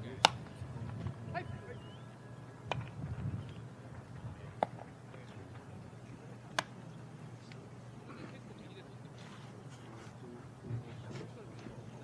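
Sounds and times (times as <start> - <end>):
low ballpark background: 0.0 - 12.0.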